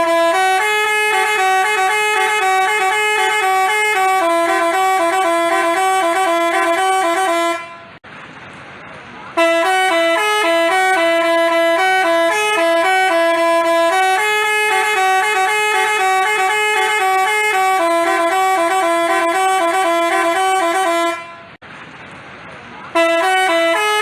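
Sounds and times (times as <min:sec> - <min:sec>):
musical horn playing a melody: 0:00.0 - 0:08.0, 0:09.4 - 0:21.6, 0:23.0 - 0:24.0.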